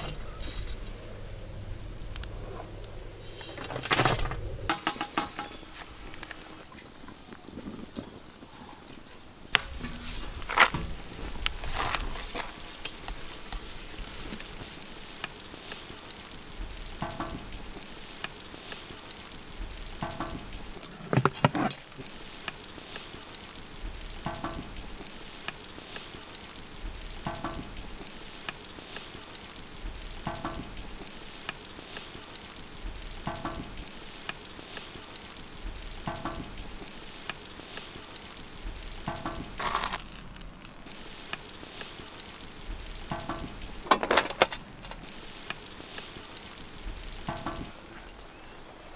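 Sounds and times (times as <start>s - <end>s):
wood fire crackling and popping: 0.0s - 47.8s.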